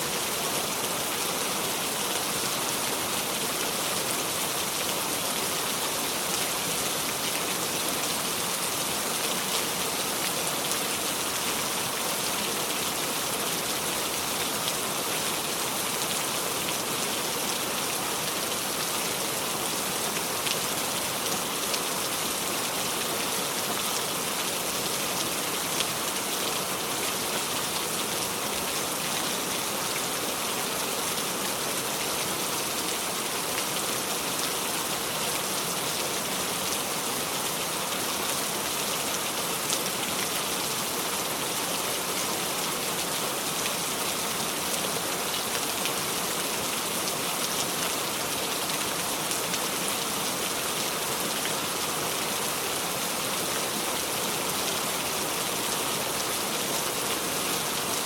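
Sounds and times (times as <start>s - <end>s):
heavy rain on a surface: 0.0s - 58.0s.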